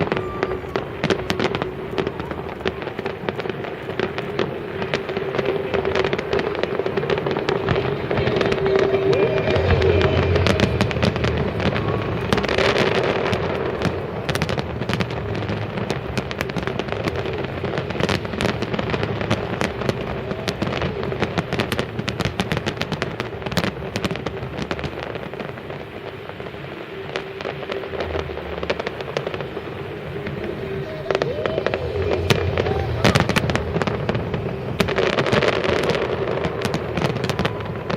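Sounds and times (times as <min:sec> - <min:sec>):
fireworks booming: 0:00.0 - 0:37.9
fireworks crackling: 0:00.0 - 0:37.9.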